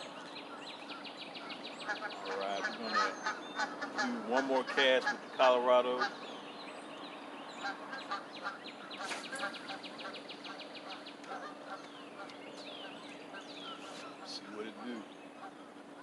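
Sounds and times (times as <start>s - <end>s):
birds calling and honking: 0.0s - 16.0s.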